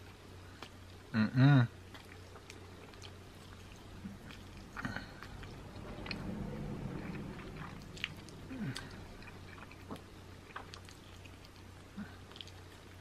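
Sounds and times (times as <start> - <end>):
chewing with wet clicks: 0.0 - 1.1, 1.8 - 13.0.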